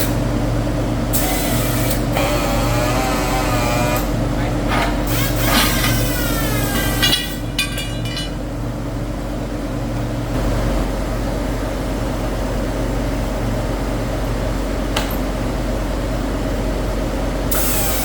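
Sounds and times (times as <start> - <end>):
factory machinery humming: 0.0 - 18.0.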